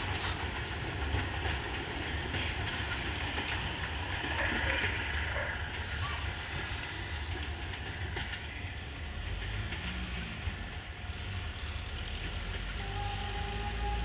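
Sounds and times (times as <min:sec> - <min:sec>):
train engine rumble: 0:00.0 - 0:14.0
train wheels on rails: 0:00.0 - 0:14.0.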